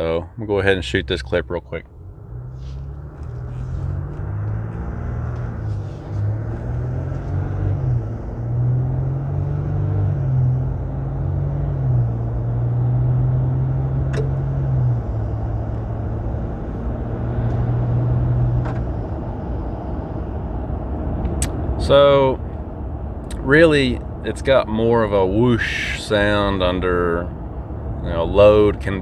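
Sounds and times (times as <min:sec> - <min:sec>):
diesel engine accelerating hard: 0:00.0 - 0:29.0.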